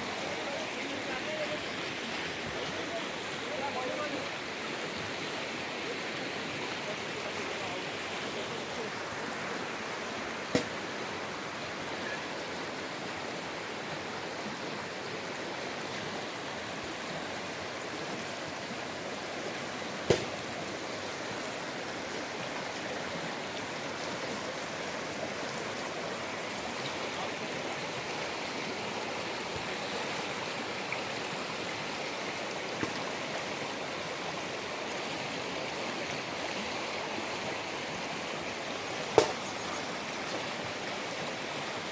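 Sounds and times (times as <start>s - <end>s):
river water rushing: 0.0s - 41.9s.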